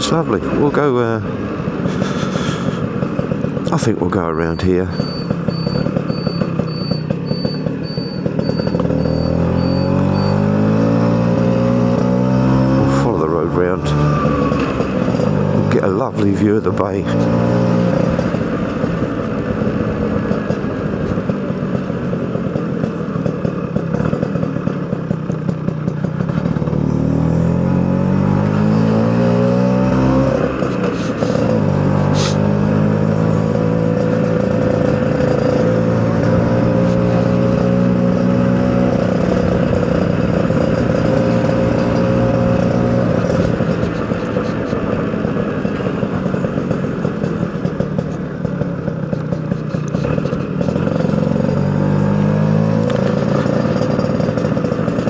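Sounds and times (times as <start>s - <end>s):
two-stroke engine revving: 0.0s - 55.0s.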